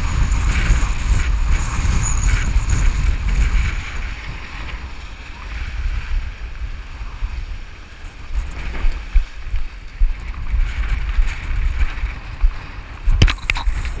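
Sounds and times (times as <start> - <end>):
water rushing and splashing: 0.0 - 14.0
wind buffeting microphone: 0.0 - 14.0.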